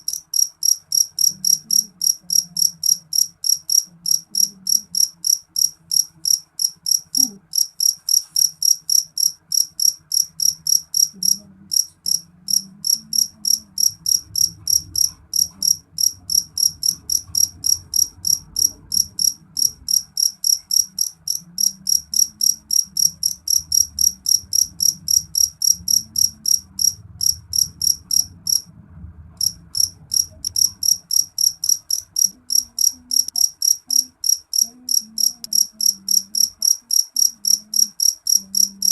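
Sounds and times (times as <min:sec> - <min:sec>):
crickets chirping: 0:00.0 - 0:28.7, 0:29.4 - 0:38.9
faint low rumble: 0:00.0 - 0:38.9.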